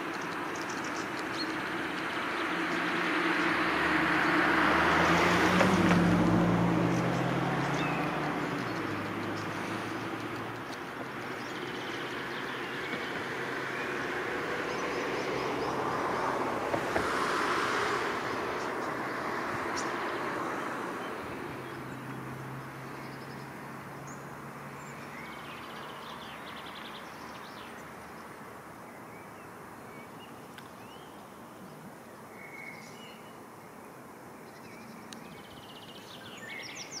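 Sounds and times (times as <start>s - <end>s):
small birds chirping: 0.0s - 3.6s, 6.6s - 15.9s, 18.3s - 37.0s.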